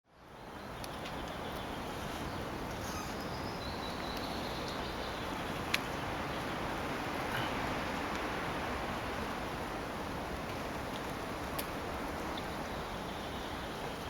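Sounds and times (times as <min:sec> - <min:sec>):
outdoor background hiss: 0:00.1 - 0:14.0.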